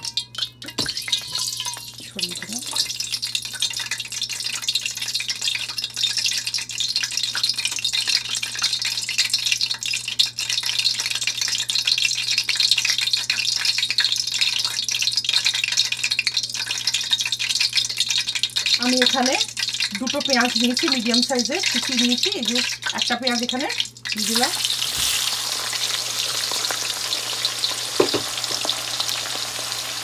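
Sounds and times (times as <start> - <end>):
hot oil sizzling: 0.0 - 30.0.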